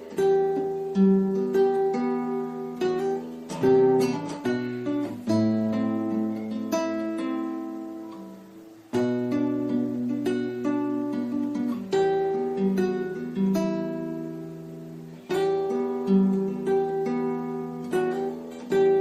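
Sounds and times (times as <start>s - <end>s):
fingerpicked acoustic guitar: 0.0s - 19.0s.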